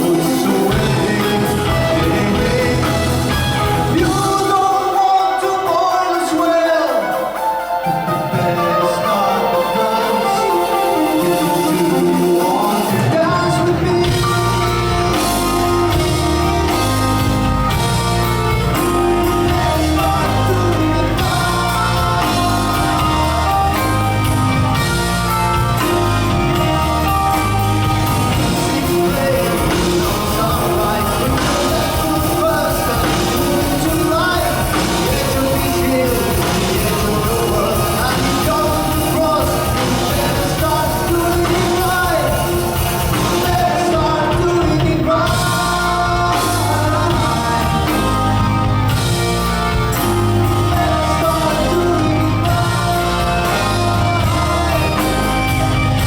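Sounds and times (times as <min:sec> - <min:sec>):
live rock band playing: 0:00.0 - 0:56.0
person singing lead vocal: 0:00.0 - 0:56.0.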